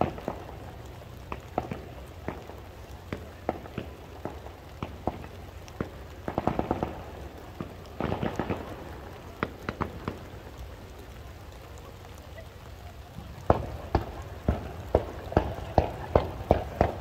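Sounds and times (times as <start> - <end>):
firework pops: 0.0 - 17.0
fireworks crackling: 0.0 - 17.0.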